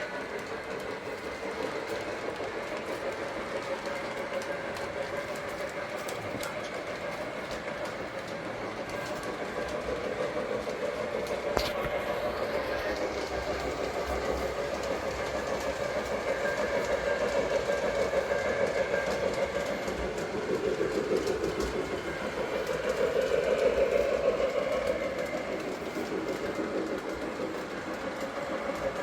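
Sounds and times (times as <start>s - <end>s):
model train motor and wheels on rails: 0.0s - 29.0s
steam locomotive sound effects: 0.0s - 29.0s.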